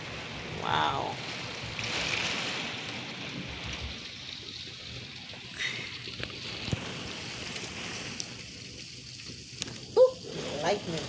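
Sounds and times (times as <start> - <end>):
heavy rain pouring: 0.0 - 11.0
raindrops ticking close by: 0.0 - 11.0.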